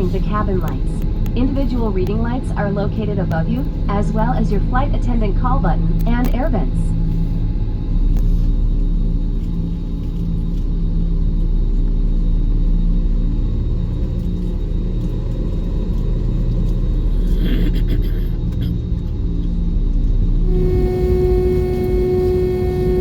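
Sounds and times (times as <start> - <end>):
jet cabin rumble: 0.0 - 23.0
low hums: 0.0 - 23.0.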